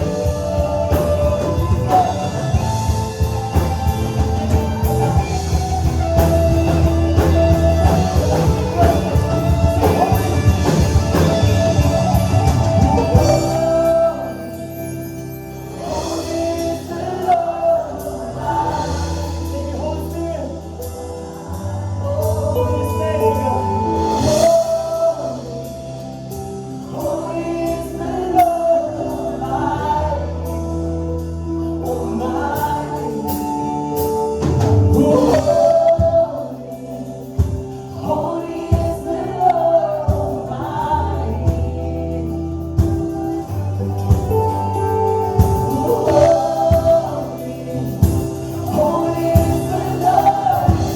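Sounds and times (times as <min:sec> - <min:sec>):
bass: 0:00.0 - 0:50.9
keyboard chords: 0:00.0 - 0:50.9
many voices singing together: 0:00.0 - 0:50.9.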